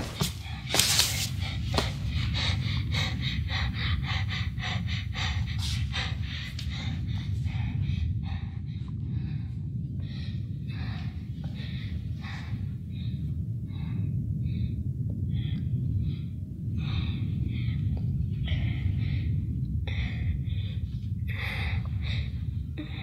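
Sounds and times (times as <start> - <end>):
girl breathing heavily: 0.0 - 23.0
low rumble: 0.0 - 23.0.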